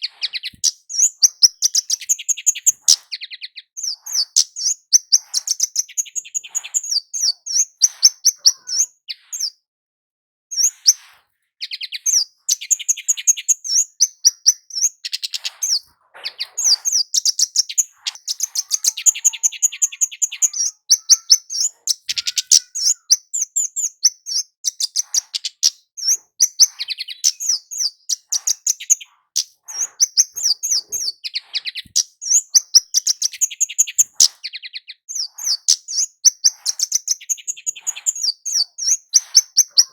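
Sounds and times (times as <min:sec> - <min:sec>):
small bird chirping and trilling: 0:00.0 - 0:09.7, 0:10.5 - 0:39.9.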